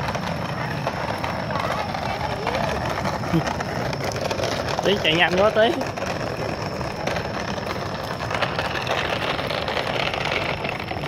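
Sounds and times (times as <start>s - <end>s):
toy truck wheels rolling on concrete: 0.0s - 11.0s.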